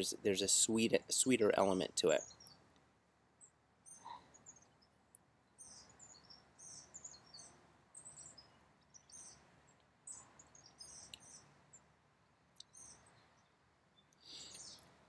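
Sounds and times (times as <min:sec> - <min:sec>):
outdoor background hiss: 0:00.0 - 0:15.0
songbirds chirping: 0:00.0 - 0:15.0.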